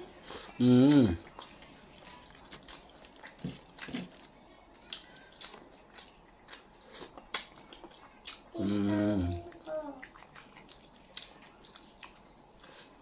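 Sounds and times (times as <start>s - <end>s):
chewing and lip-smacking: 0.2s - 13.0s.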